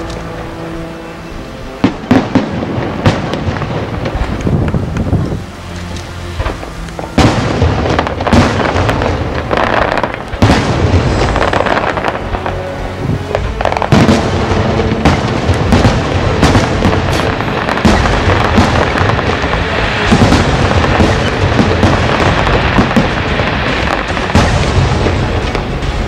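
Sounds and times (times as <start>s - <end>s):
fireworks booming and crackling: 0.0s - 26.0s.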